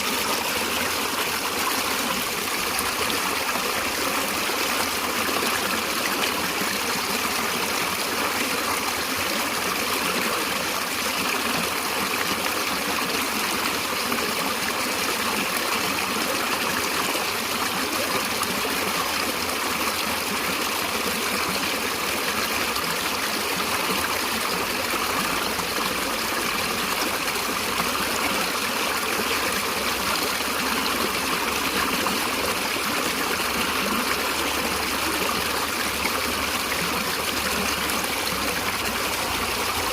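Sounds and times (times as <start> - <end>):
stream water trickling over stones: 0.0 - 39.9.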